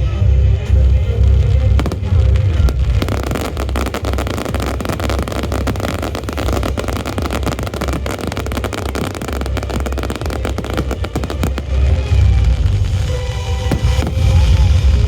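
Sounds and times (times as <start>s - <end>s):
fireworks cracking and popping: 0.8s - 15.0s.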